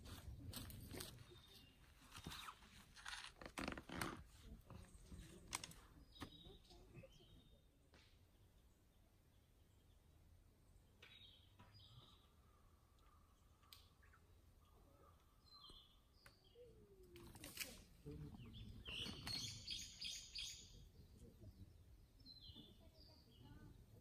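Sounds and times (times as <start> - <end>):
faint forest birdsong: 0.0 - 24.0.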